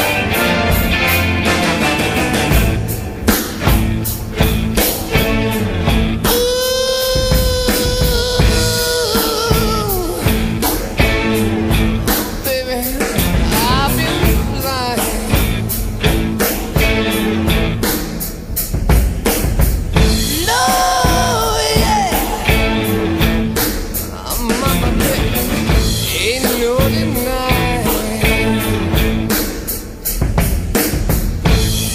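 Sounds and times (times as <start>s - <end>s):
rock music with singing: 0.0s - 31.9s.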